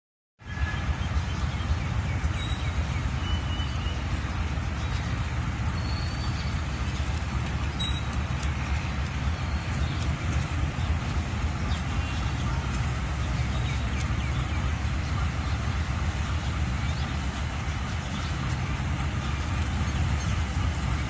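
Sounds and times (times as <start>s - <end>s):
locomotive engine rumbling: 0.5s - 21.0s.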